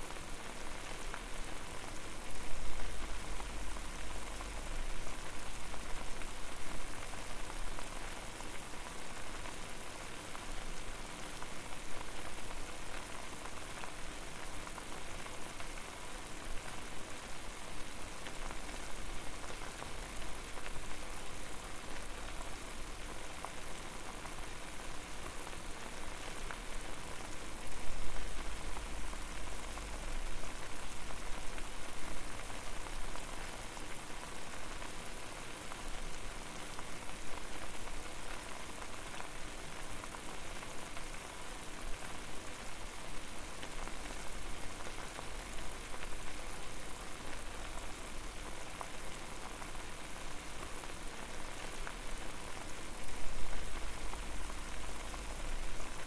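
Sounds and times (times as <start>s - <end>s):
water boiling and bubbling: 0.1s - 56.0s.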